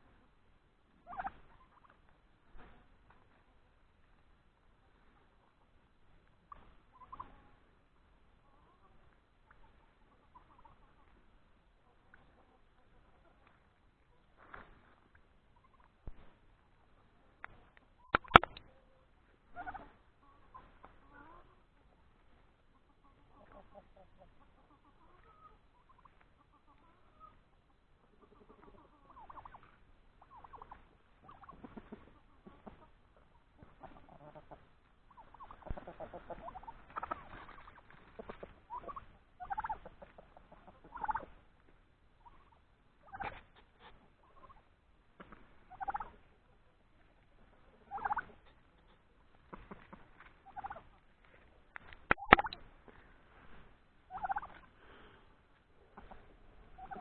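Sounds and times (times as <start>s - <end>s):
chickens clucking: 0.0s - 57.0s
turkeys calling: 0.9s - 57.0s.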